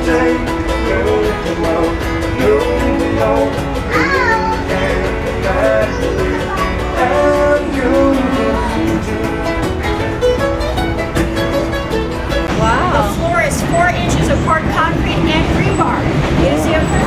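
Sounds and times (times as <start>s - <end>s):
acoustic guitar strumming: 0.0s - 17.0s
sliding melody notes: 0.0s - 17.0s.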